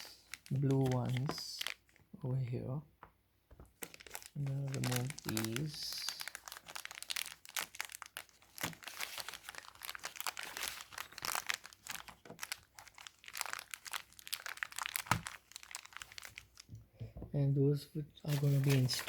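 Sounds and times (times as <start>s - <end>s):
plastic packaging crinkling: 0.0s - 2.0s, 3.6s - 16.7s, 18.3s - 19.0s.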